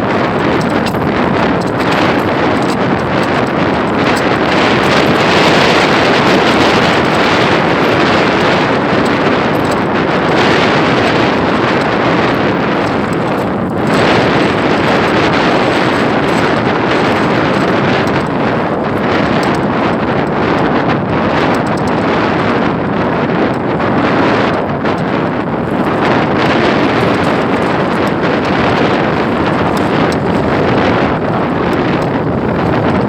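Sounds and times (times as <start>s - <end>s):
strong wind blowing on microphone: 0.0s - 33.0s.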